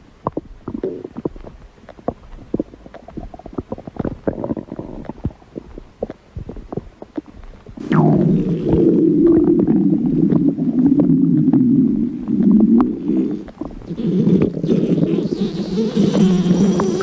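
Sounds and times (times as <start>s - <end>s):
loud stomach rumble: 0.0s - 17.0s
stomach gurgles and pops: 0.0s - 17.0s.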